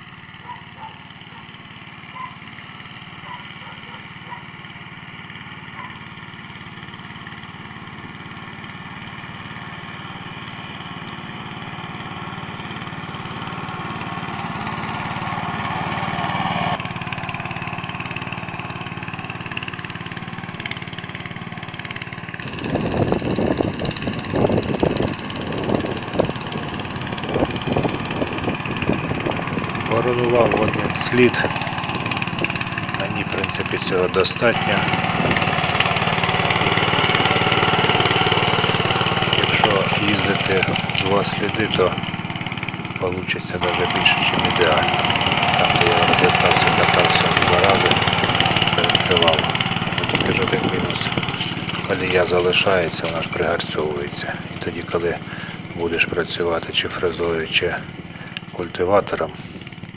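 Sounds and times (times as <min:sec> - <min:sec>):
walk-behind tractor engine running: 0:00.0 - 0:59.9.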